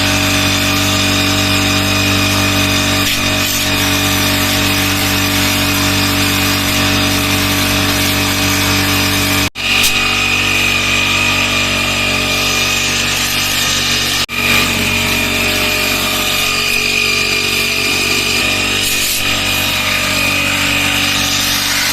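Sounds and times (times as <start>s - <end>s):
pressure washer pump whining: 0.0s - 21.9s.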